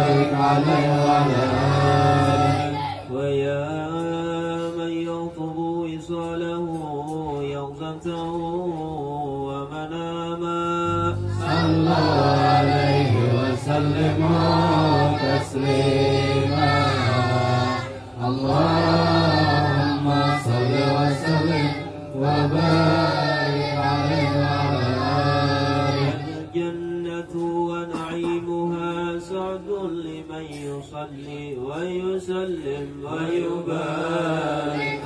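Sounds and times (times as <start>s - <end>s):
men chanting in unison: 0.0s - 35.0s.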